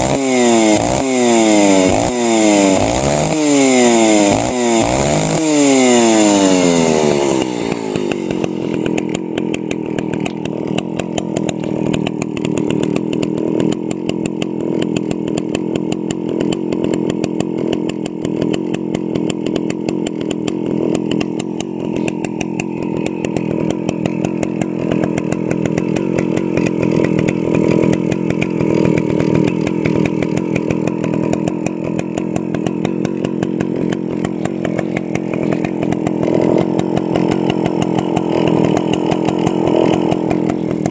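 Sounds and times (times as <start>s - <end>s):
chainsaw engine idling: 0.0s - 40.9s.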